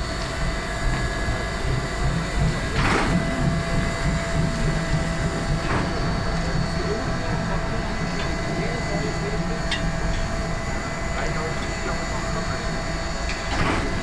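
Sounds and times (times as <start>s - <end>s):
steam locomotive rumbling: 0.0s - 14.0s.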